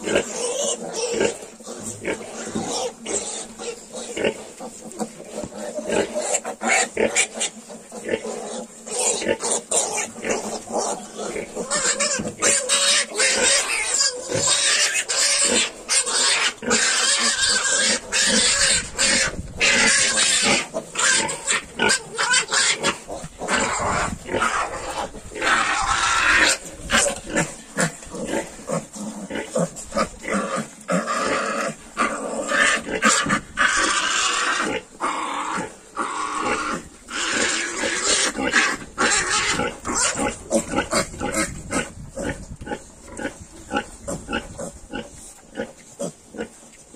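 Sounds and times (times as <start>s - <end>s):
piglets grunting and squealing: 0.0s - 46.9s.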